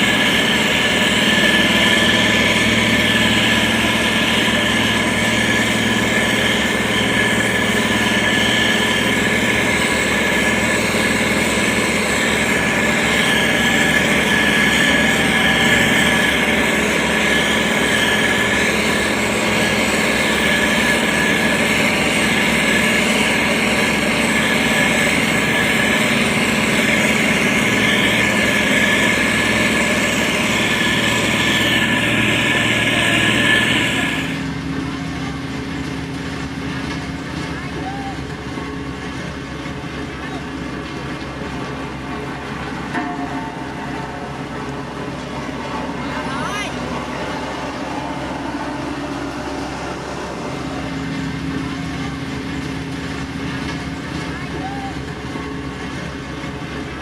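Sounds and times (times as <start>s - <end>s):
constant whine: 0.0s - 57.0s
diesel engine running: 0.0s - 57.0s.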